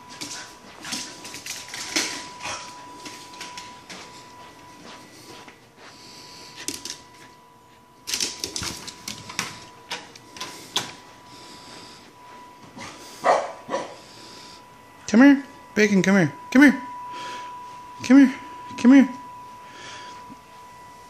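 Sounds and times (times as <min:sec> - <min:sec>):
faint steady high tone: 0:00.0 - 0:21.0.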